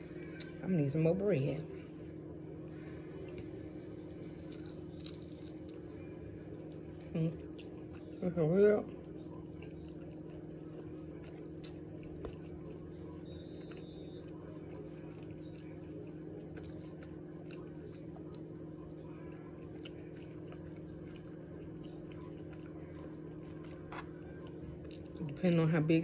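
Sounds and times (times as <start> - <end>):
low electrical hum: 0.0 - 26.0
person chewing: 2.3 - 8.2, 9.0 - 25.2.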